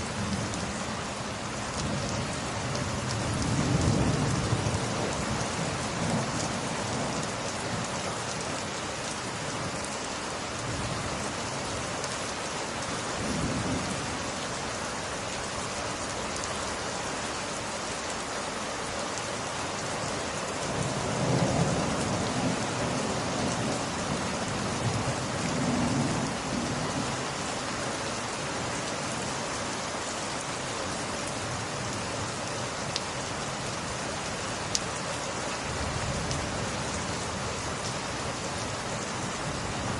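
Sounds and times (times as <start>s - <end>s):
rain on window glass: 0.1s - 39.9s.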